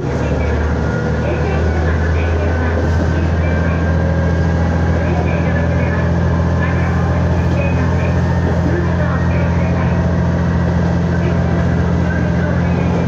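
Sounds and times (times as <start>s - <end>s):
diesel railcar engine humming: 0.0s - 13.0s.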